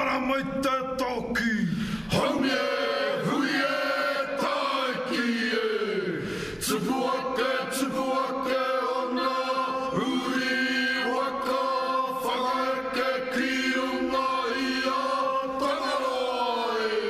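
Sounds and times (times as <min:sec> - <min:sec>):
group of men chanting: 0:02.0 - 0:17.0.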